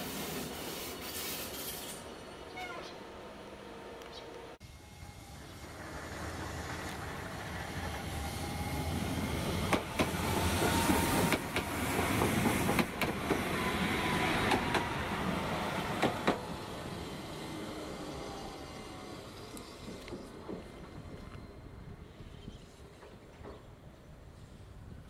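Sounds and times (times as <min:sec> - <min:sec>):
tram rolling noise: 0:00.0 - 0:25.0.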